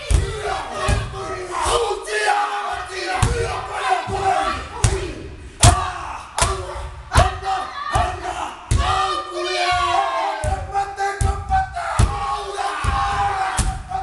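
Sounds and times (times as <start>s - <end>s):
men chanting and shouting: 0.0s - 14.0s.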